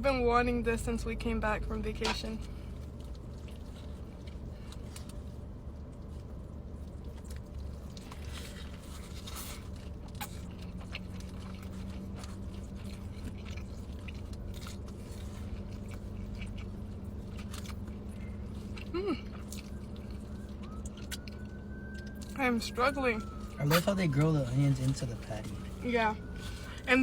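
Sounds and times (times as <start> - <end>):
steady low hum: 0.0 - 27.0
chewing with wet mouth sounds: 1.9 - 27.0
food crunching: 2.6 - 26.9.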